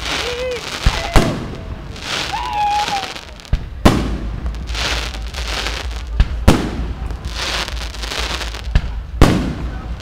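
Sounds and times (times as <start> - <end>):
crackling hiss of burning stars: 0.0 - 10.0.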